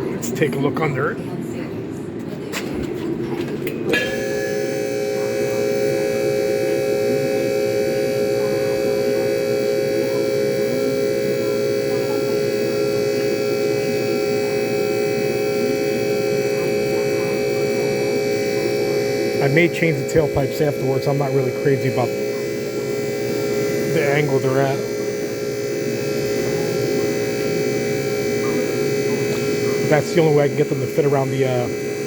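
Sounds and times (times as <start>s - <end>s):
machine hum: 3.9s - 32.0s.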